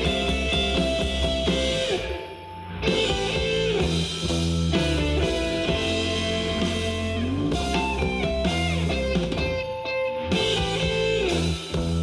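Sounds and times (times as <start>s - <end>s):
instrumental rock music: 0.0s - 12.0s.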